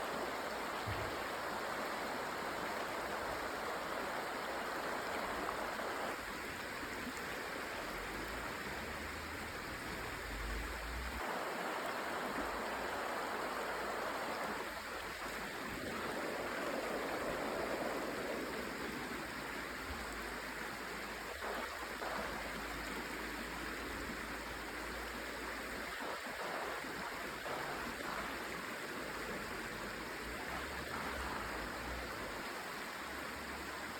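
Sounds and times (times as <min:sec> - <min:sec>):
stream water rushing and gurgling: 0:00.0 - 0:33.9.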